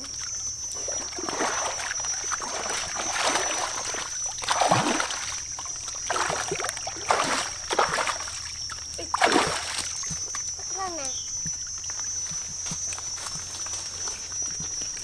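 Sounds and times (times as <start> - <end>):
high-pitched whine: 0.0 - 15.0
water splashing and sloshing: 0.0 - 15.0.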